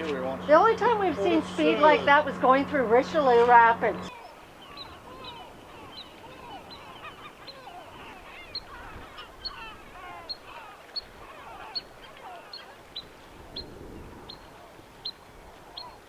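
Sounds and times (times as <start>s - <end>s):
birds chattering wavering calls: 0.0s - 16.0s.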